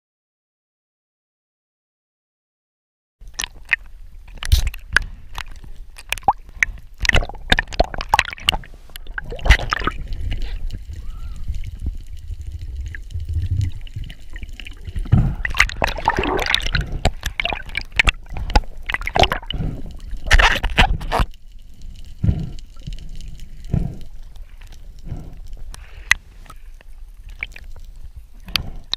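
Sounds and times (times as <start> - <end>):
water sloshing and gurgling: 3.2 - 28.9
water splashes: 3.2 - 28.9.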